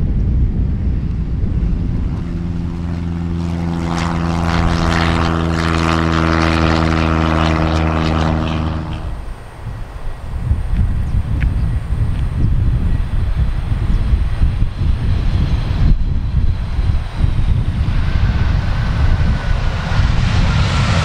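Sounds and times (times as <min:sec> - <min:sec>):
light aircraft engine drone: 0:00.0 - 0:21.0
wind rumble on microphone: 0:00.0 - 0:21.0.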